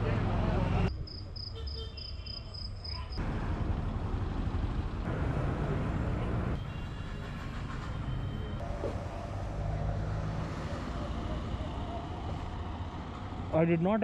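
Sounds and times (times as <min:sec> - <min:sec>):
street noise: 0:00.0 - 0:14.0
traffic rumble: 0:00.0 - 0:14.0.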